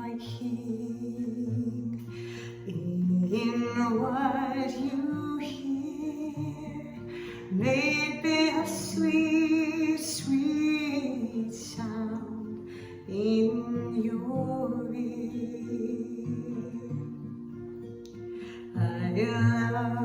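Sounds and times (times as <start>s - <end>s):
woman singing: 0.0s - 17.7s, 18.6s - 20.0s
acoustic guitar: 0.0s - 20.0s.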